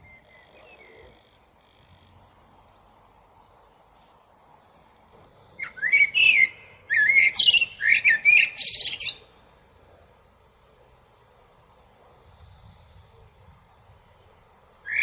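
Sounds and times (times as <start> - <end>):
blackbird singing: 0.0 - 3.0, 4.6 - 9.4, 10.8 - 15.0.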